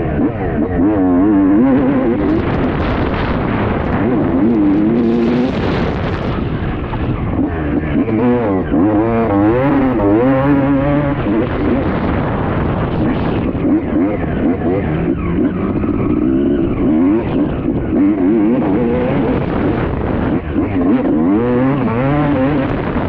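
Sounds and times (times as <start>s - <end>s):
motocross engines revving: 0.0s - 23.0s.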